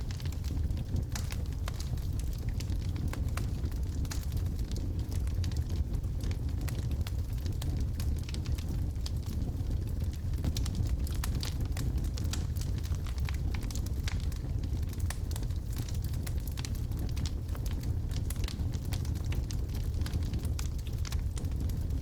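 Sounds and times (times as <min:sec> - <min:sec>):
fire rumbling in fireplace: 0:00.0 - 0:22.0
wood crackling and popping: 0:00.0 - 0:22.0.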